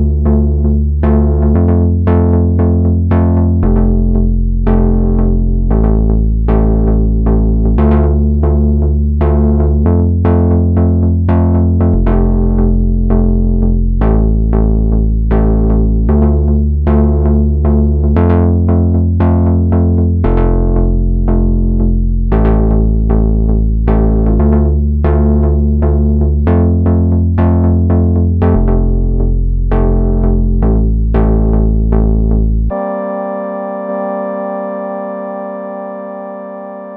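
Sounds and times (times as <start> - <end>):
deep synth bass notes: 0.0 - 36.9
short plucked synth notes: 0.0 - 36.9.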